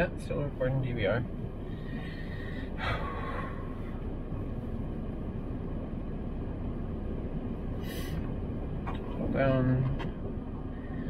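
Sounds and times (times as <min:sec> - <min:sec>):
low rumble in car cabin: 0:00.0 - 0:11.0.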